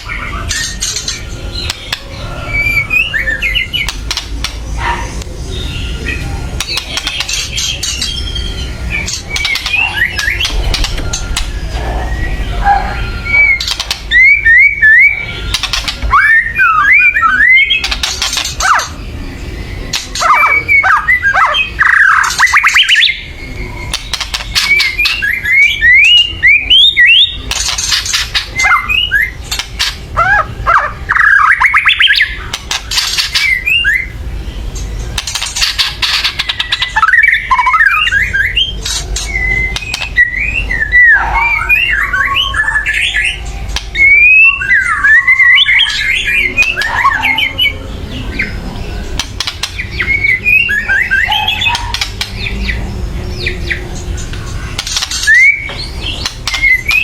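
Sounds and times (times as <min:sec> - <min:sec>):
bird whistled notes: 0:04.9 - 0:34.2, 0:35.6 - 0:48.6, 0:49.4 - 0:52.8, 0:55.0 - 0:57.0
bird harsh rattling calls: 0:06.1 - 0:19.1, 0:19.9 - 0:34.2, 0:34.8 - 0:57.0.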